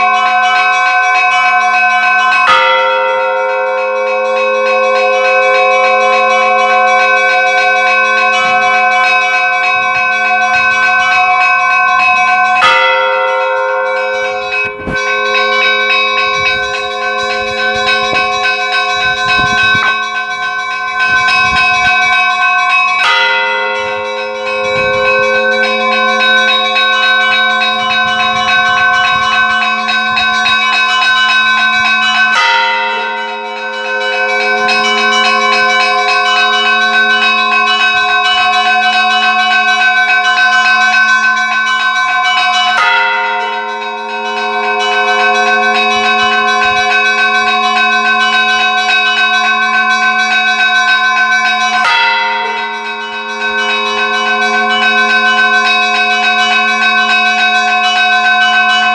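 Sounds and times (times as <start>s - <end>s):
church bells ringing: 0.0s - 58.9s.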